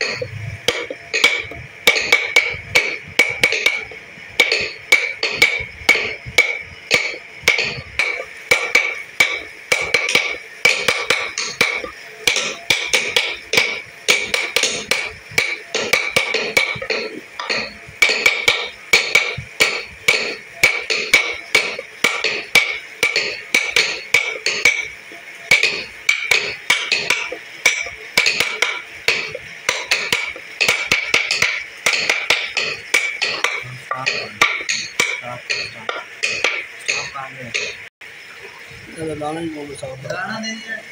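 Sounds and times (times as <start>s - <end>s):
hammer tapping metal chisel: 0.0s - 24.9s, 25.5s - 37.8s.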